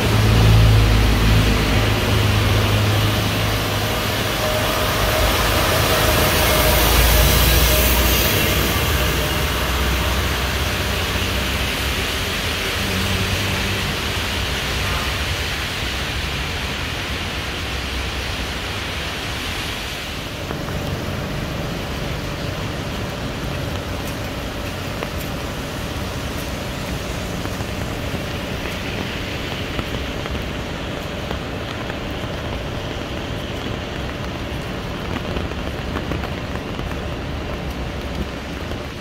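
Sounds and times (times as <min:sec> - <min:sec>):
passing traffic rumble: 0:00.0 - 0:39.0
rain hissing: 0:00.0 - 0:39.0
tyres on a wet road: 0:00.0 - 0:39.0.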